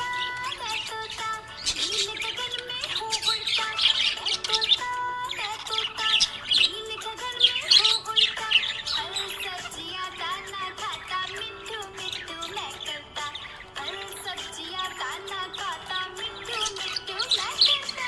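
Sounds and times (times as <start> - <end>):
background music with held notes: 0.0 - 18.0
budgerigar chirping: 0.0 - 18.0.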